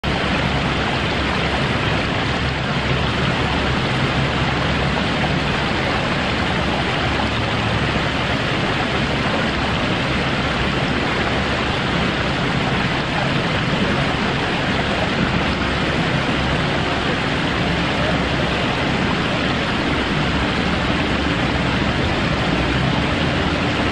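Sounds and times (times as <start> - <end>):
fountain water splashing: 0.0 - 23.9.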